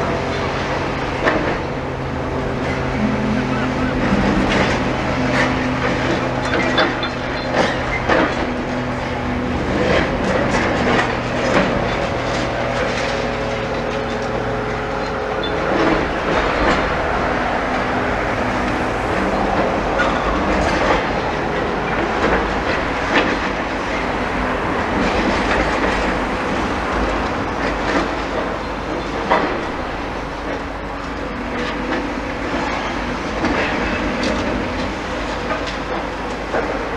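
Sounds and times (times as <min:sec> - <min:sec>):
excavator diesel engine running: 0:00.0 - 0:36.9
rubble and metal crunching: 0:00.0 - 0:36.9.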